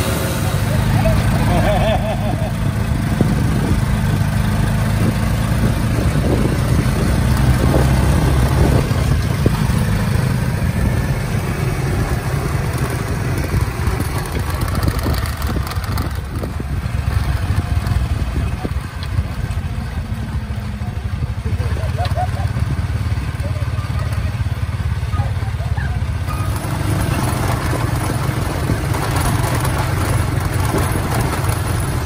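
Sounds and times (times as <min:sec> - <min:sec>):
small motorcycle engine running: 0:00.0 - 0:32.0.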